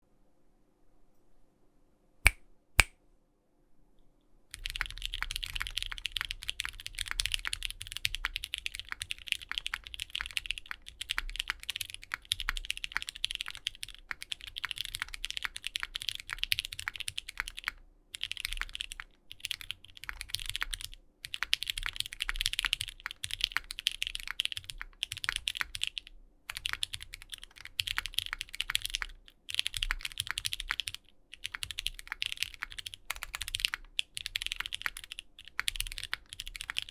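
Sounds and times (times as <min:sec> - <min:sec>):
mechanical keyboard typing: 0:04.5 - 0:36.9.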